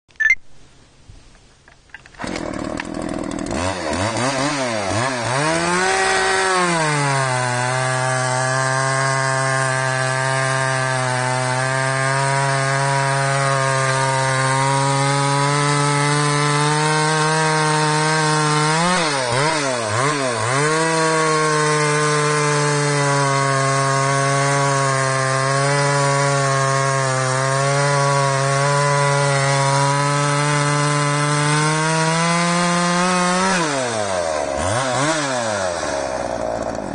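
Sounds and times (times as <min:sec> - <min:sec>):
chainsaw revving and cutting log: 0:02.1 - 0:36.9.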